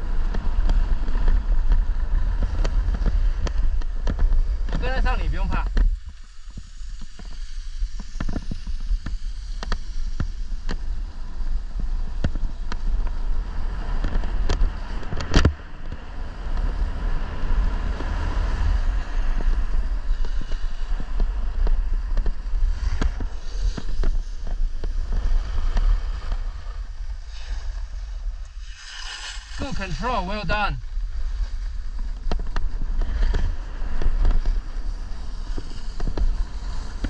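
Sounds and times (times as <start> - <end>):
skis sliding on snow: 0.0 - 37.0
wind buffeting microphone: 0.0 - 37.0.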